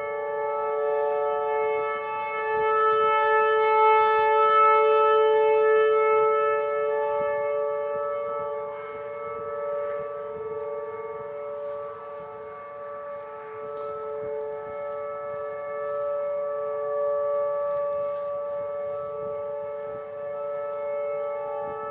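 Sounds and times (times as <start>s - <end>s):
tornado warning siren steady tone: 0.0s - 21.9s.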